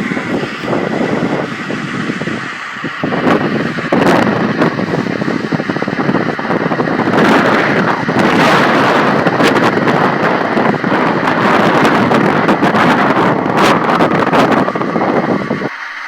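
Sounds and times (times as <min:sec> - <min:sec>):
strong wind blowing: 0:00.0 - 0:15.8.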